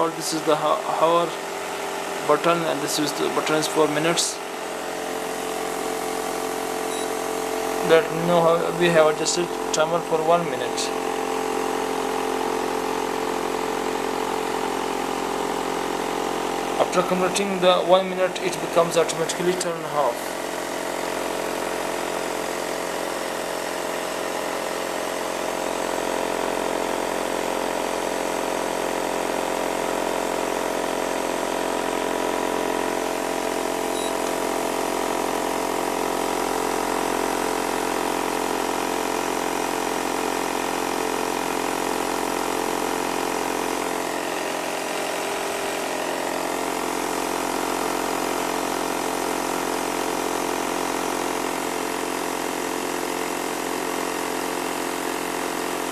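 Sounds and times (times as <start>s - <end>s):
fan heater blower whirring: 0.0s - 55.9s.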